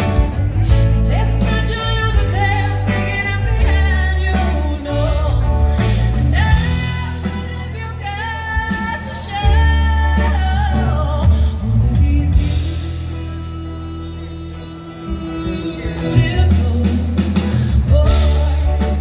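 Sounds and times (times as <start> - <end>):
drums: 0.0 - 19.0
electric bass: 0.0 - 19.0
electric guitars: 0.0 - 19.0
woman singing lead: 0.0 - 19.0.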